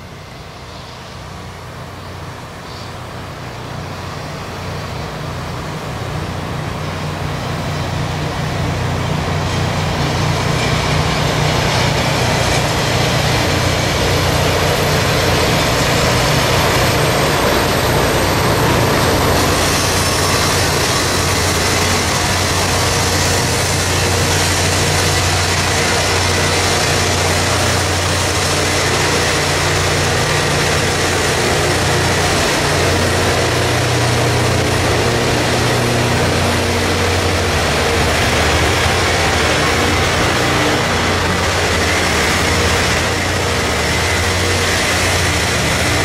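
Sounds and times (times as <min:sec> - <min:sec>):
train rolling past: 0:00.0 - 0:46.0
diesel engines humming: 0:01.2 - 0:46.0.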